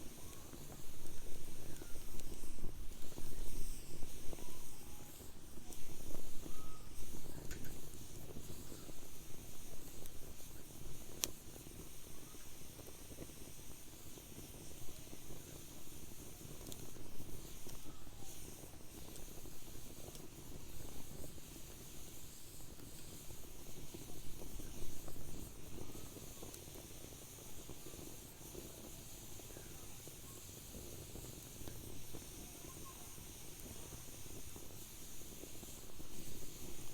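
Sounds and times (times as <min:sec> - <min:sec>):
wood fire hissing and crackling: 0:00.0 - 0:36.9.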